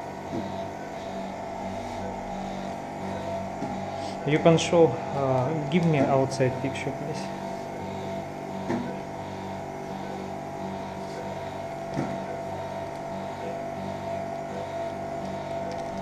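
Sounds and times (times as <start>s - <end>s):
operating room equipment hum: 0.0s - 16.0s.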